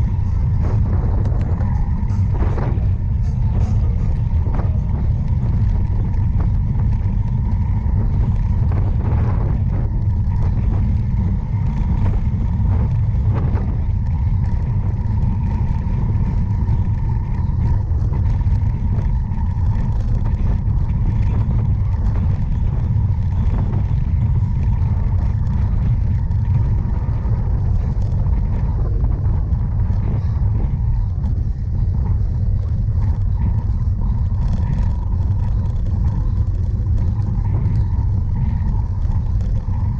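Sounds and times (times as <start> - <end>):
bike ticks and rattles: 0.0 - 39.9
wind rumbling on microphone: 0.0 - 39.9.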